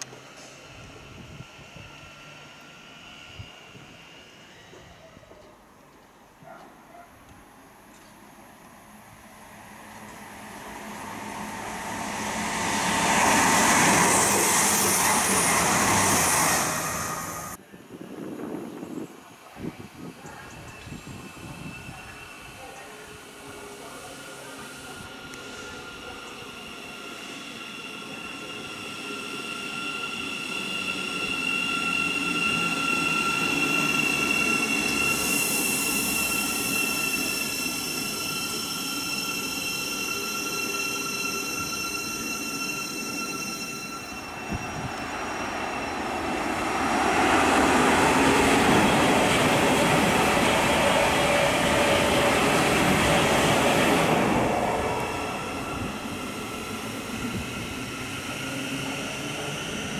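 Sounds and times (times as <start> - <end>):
train whine: 0.0 - 6.6, 7.2 - 59.9
train wheels rushing on rail: 7.3 - 17.6, 19.5 - 59.9.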